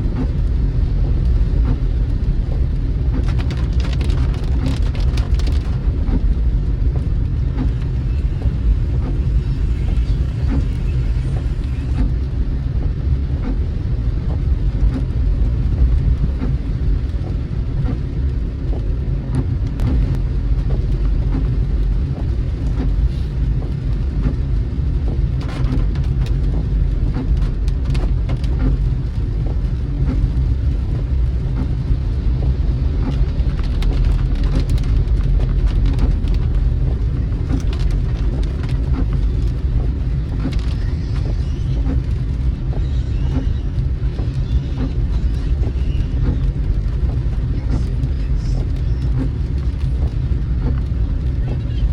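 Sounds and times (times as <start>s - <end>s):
car driving rumble from inside: 0.0s - 51.9s
rain ticking on car: 0.0s - 51.9s.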